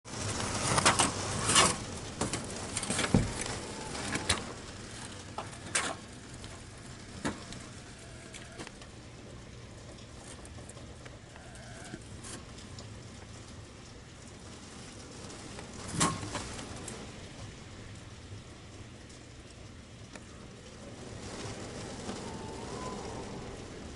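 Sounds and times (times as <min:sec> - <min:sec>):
pouring rain: 0:00.0 - 0:23.9
wind: 0:00.1 - 0:23.9.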